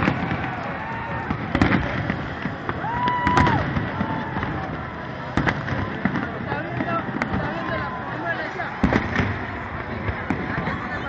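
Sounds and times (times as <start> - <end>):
crowd noise: 0.0 - 11.0
fireworks bangs: 0.0 - 11.0.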